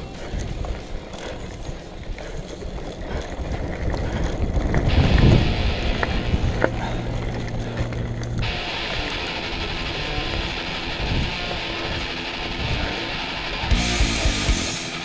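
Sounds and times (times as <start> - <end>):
wind on microphone: 0.0 - 8.5, 9.1 - 13.0
bike rattling: 0.0 - 14.9
bike tyre rumble: 0.0 - 14.9
steady low hum: 0.0 - 14.9.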